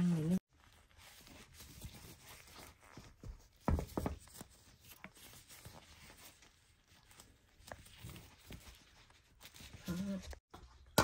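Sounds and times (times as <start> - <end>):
plastic gloves crinkling on cloth: 0.2 - 10.5.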